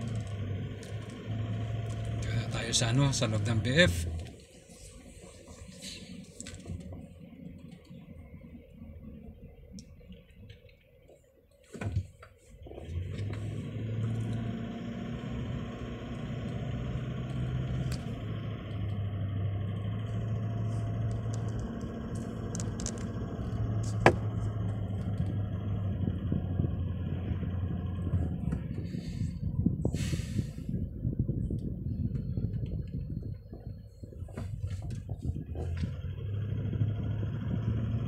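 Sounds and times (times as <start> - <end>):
car engine and road hum: 0.0 - 38.0.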